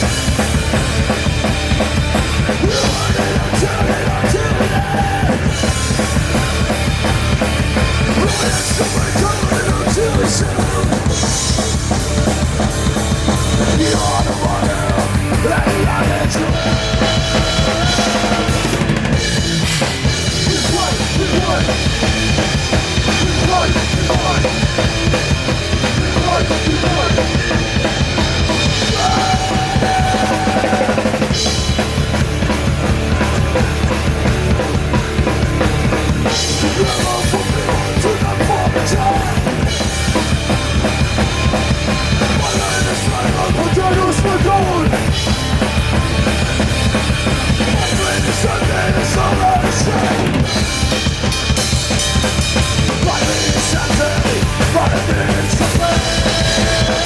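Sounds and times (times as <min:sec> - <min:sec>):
live band music: 0:00.0 - 0:57.0.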